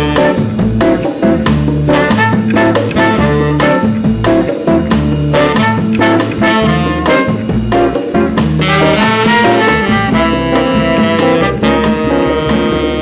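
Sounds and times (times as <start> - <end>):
upbeat jazz swing music with horns: 0.0 - 13.0.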